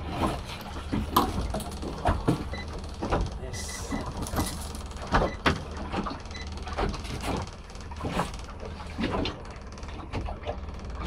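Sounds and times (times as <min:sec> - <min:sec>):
net and fish clattering on boat: 0:00.0 - 0:11.0.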